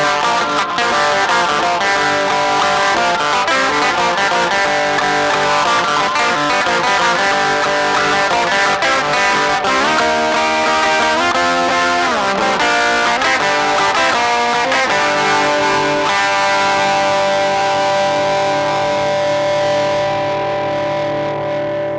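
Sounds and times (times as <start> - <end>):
distorted electric guitar: 0.0 - 21.9.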